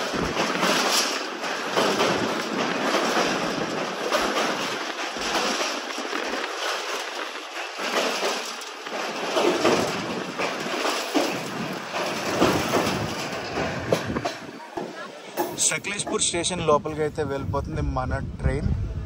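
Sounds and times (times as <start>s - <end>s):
wind rushing over microphone: 0.0s - 7.4s, 9.4s - 19.0s.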